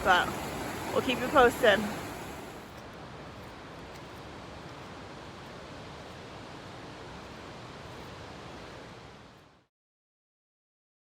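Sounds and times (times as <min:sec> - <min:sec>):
mountain stream flowing: 0:00.0 - 0:09.6.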